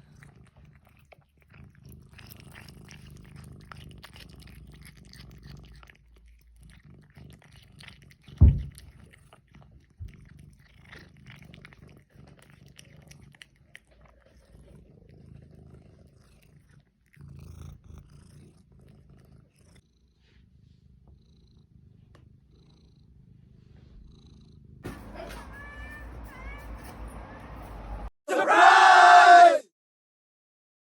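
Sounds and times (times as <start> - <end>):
cat purring: 0.0 - 27.1.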